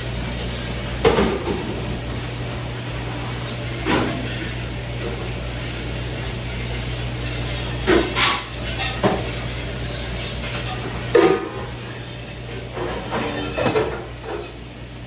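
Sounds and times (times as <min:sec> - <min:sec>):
knocks and clinks of hard objects: 0:00.0 - 0:01.9, 0:03.7 - 0:15.0
steady mechanical hum: 0:00.0 - 0:15.0.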